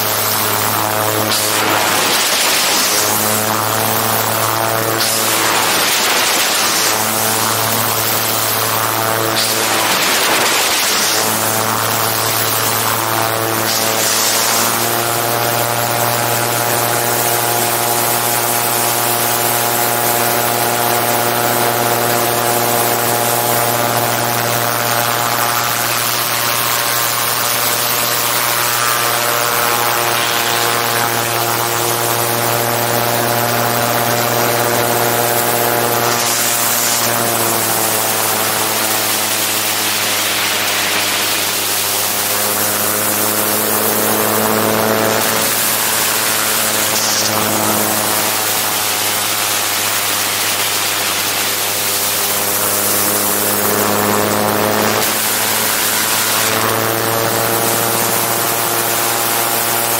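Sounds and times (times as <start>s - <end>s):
aircraft engine and propeller: 0.0s - 59.9s.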